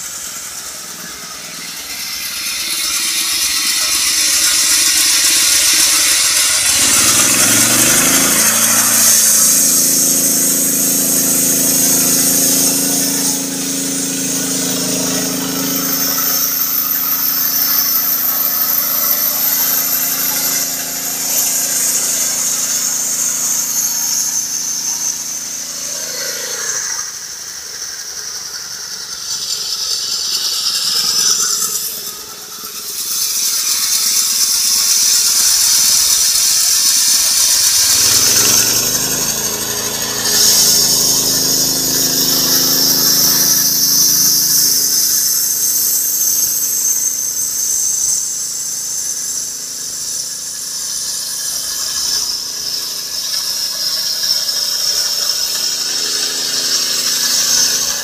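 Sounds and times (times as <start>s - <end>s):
petrol engine running: 0.0s - 58.0s
saw blade hissing in wood: 0.0s - 58.0s.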